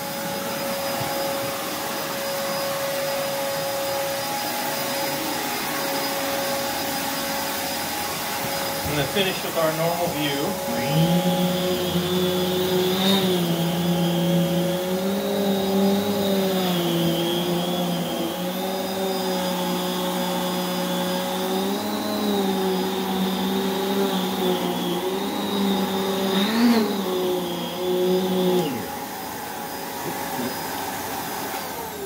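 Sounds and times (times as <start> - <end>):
vacuum cleaner motor whine: 0.0 - 32.0.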